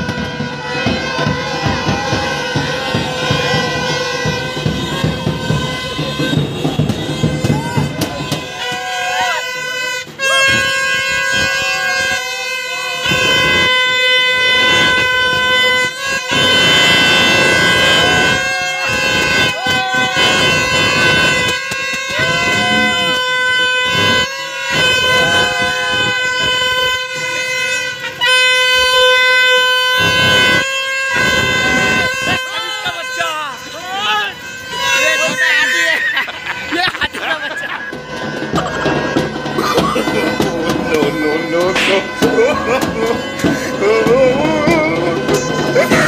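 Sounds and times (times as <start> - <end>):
crowd shouting: 0.0 - 46.0
toy trumpet horns blaring: 0.0 - 46.0.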